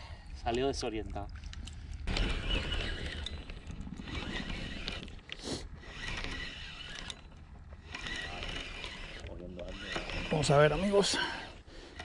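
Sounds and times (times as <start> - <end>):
fishing reel ticking while cranked: 1.6 - 12.0.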